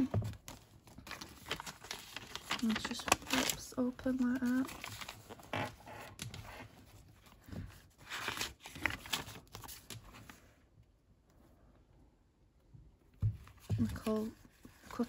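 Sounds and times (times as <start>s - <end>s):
paper pages rustling: 0.0s - 10.5s, 13.4s - 15.0s.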